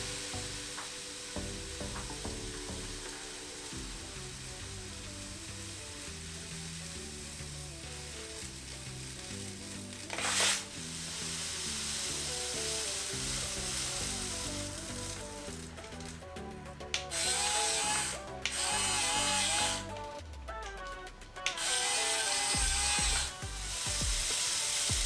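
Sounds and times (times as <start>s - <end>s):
steady hiss: 0.0s - 20.6s, 21.3s - 25.0s
background music of low notes: 0.0s - 25.0s.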